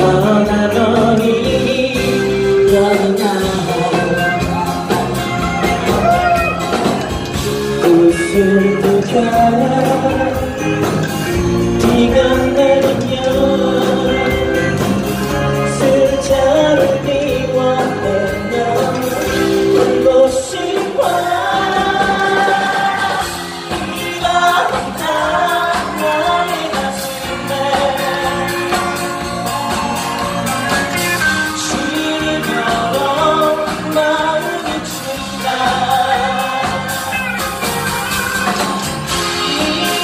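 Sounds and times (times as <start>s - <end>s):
live band playing pop song: 0.0s - 40.0s
person singing: 0.0s - 40.0s.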